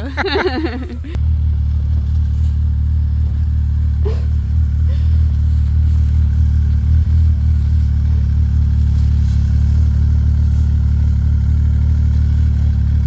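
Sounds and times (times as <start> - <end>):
snowmobile engine droning: 0.0 - 13.0.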